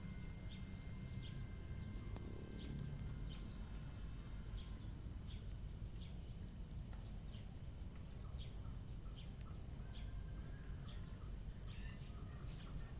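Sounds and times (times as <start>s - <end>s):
bird chirping: 0.0s - 12.9s
steady low rumble: 0.0s - 12.9s.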